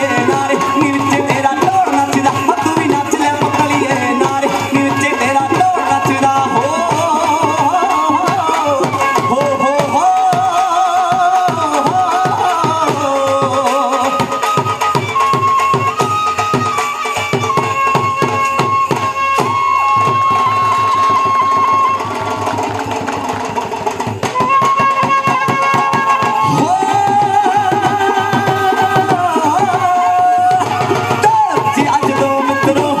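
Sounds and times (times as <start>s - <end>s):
fast folk drum beat: 0.0s - 33.0s.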